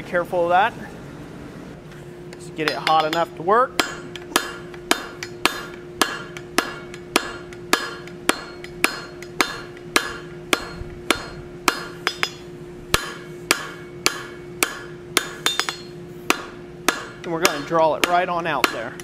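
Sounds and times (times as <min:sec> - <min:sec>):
hammer striking steel on anvil: 0:02.6 - 0:19.0.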